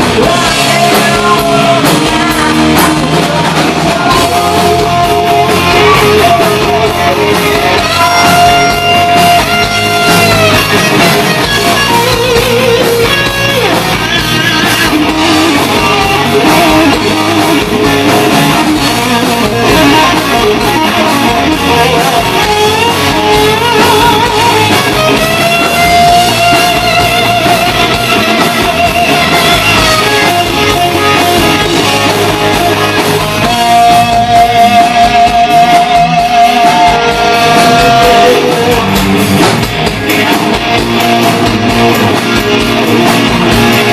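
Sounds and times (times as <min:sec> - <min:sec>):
bass: 0:00.0 - 0:43.9
drums: 0:00.0 - 0:43.9
electric guitar lead with vibrato: 0:00.0 - 0:43.9.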